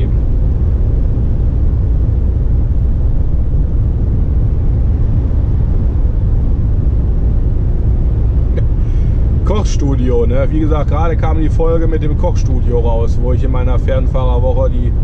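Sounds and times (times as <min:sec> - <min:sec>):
truck engine and tyre noise: 0:00.0 - 0:15.0.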